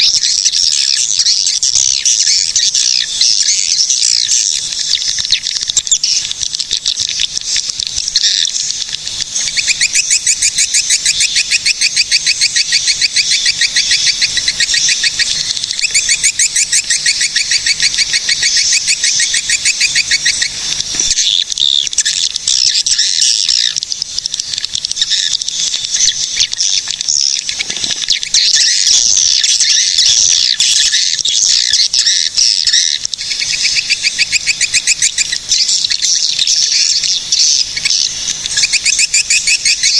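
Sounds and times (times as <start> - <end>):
swiftlets chittering trills: 0.0 - 39.9.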